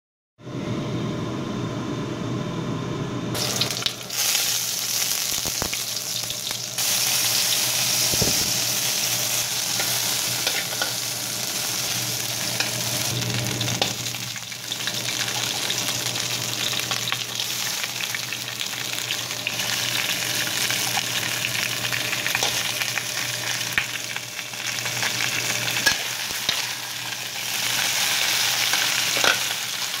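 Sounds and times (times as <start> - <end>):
lobster sizzling in hot oil: 3.4 - 30.0.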